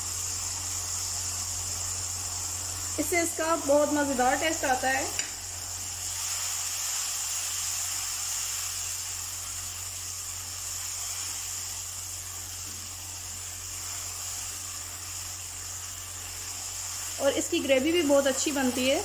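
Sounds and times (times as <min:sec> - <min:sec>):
chicken sizzling in a wok: 0:00.0 - 0:19.0.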